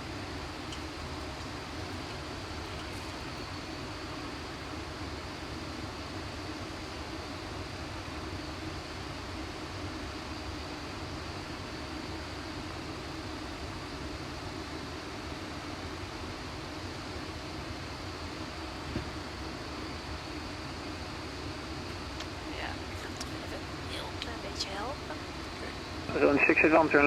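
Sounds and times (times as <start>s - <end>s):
air rush and engine hum: 0.0s - 7.9s, 10.5s - 27.0s.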